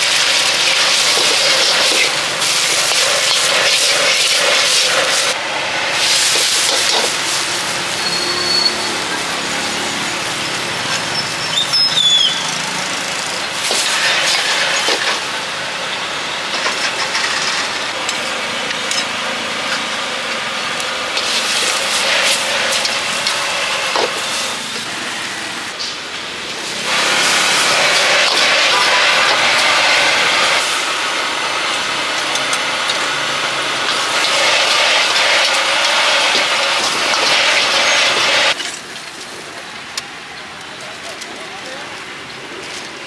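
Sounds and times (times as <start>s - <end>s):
food sizzling in a wok: 0.0s - 11.6s, 12.4s - 18.6s, 20.5s - 39.5s
gas burner hissing: 0.0s - 41.3s.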